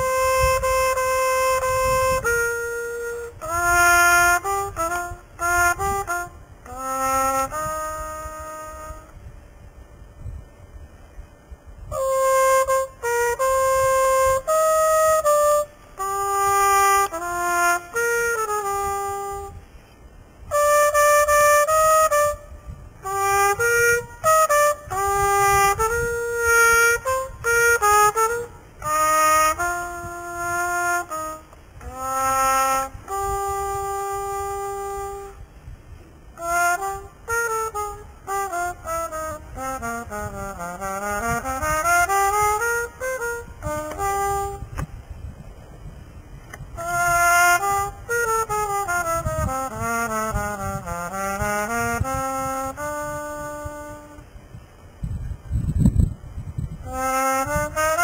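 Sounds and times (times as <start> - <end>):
solo trumpet melody: 0.0 - 9.5, 11.4 - 45.5, 46.2 - 55.5, 56.2 - 58.0.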